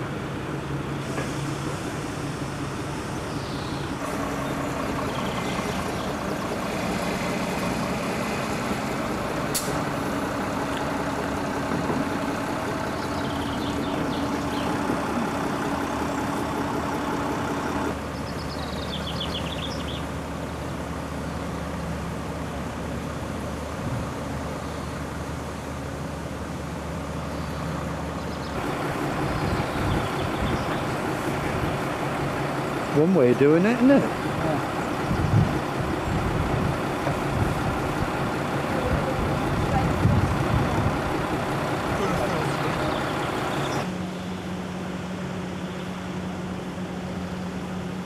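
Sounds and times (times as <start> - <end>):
lorry diesel engine running: 0.0 - 48.0.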